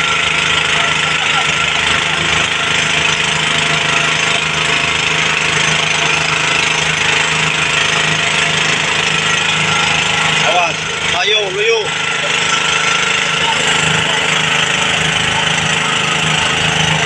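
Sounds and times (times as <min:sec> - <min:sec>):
small pump engine knocking: 0:00.0 - 0:17.0.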